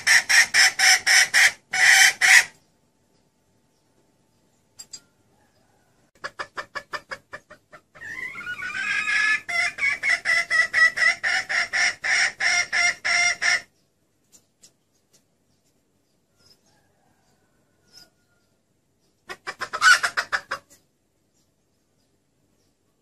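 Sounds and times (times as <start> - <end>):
hen clucking: 0.0 - 3.3, 5.3 - 22.8.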